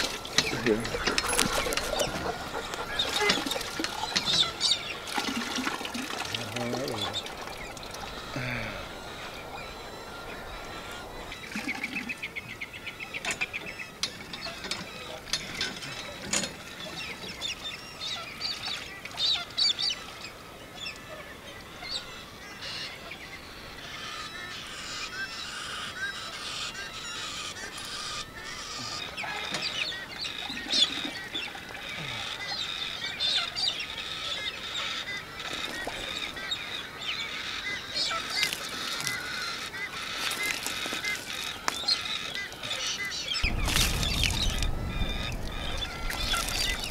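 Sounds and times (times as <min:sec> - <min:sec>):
birds calling and chirping: 0:00.0 - 0:46.9.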